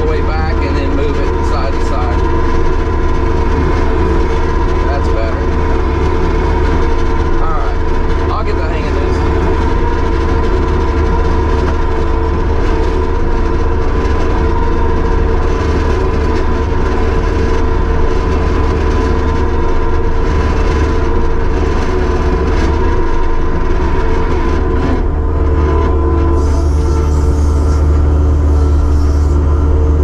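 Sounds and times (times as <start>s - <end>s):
diesel engine drone with whine: 0.0s - 30.0s.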